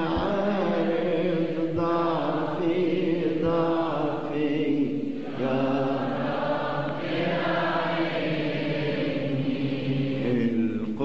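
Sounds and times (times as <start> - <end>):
voices chanting a hymn: 0.0 - 11.0.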